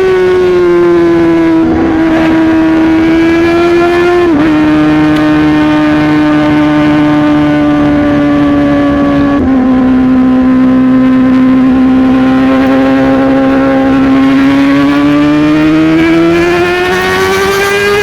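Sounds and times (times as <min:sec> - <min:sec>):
motorcycle engine at high revs: 0:00.0 - 0:18.0.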